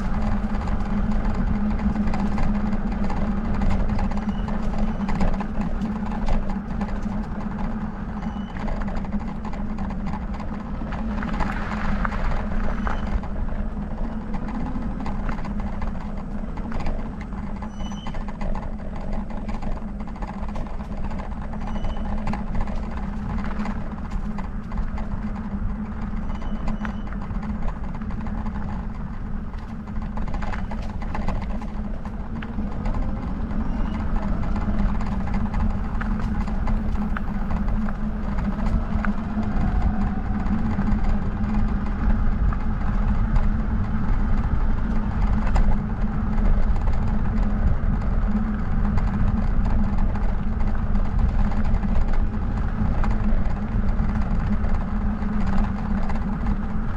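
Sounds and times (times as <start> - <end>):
bike clicks and rattles: 0.0 - 56.9
bike tires rolling on road: 0.0 - 56.9
wind: 0.0 - 56.9.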